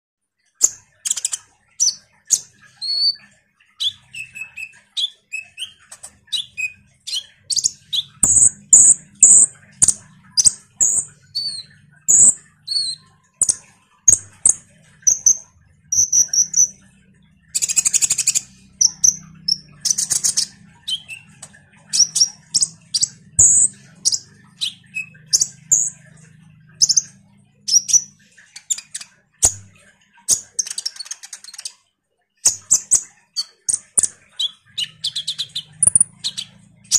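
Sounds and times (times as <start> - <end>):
sunbird singing: 0.6 - 31.7, 32.4 - 36.9
buzzy bird trills: 0.6 - 31.8, 32.4 - 36.9.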